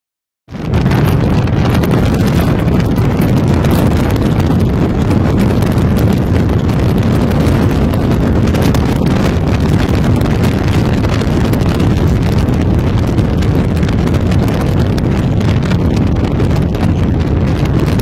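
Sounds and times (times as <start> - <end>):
car engine and road noise: 0.5 - 18.0
wind buffeting microphone: 0.5 - 18.0.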